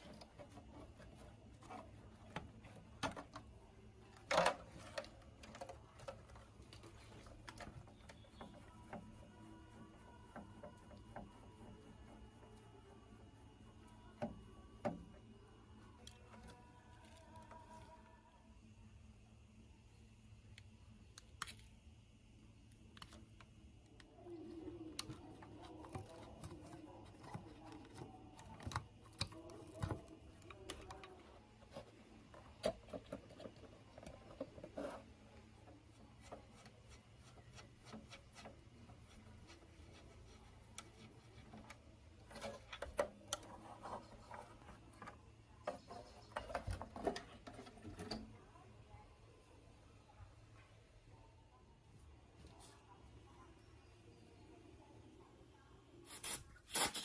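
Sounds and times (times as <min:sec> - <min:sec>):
low steady hum: 0:00.0 - 0:56.1.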